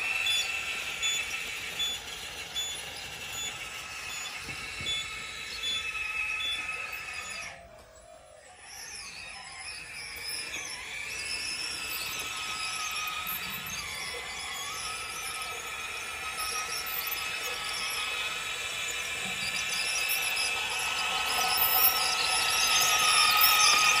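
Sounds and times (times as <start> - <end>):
electric hydraulic pump whining: 0.0 - 24.0.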